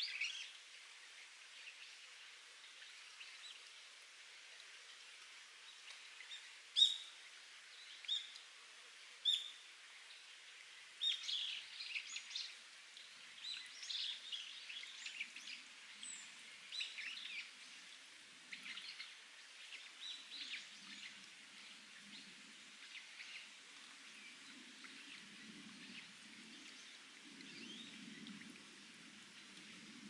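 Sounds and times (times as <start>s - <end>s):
water trickling: 0.0s - 30.0s.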